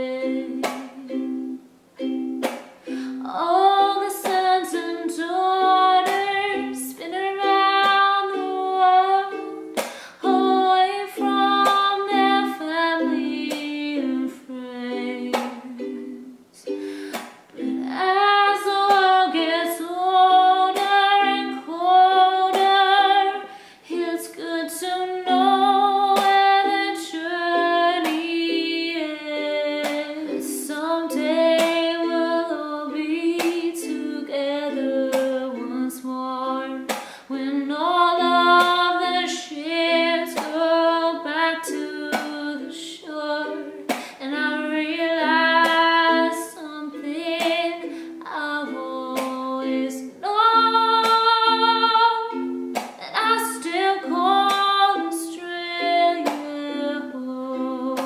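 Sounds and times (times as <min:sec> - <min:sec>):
woman singing: 0:00.0 - 0:01.6, 0:03.0 - 0:58.0
ukulele strumming: 0:00.0 - 0:58.0.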